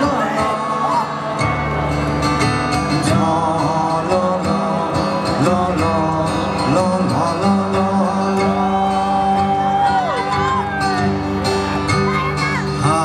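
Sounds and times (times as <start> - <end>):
person singing: 0.0 - 2.0, 2.8 - 11.2, 11.9 - 13.0
crowd singing along: 0.0 - 13.0.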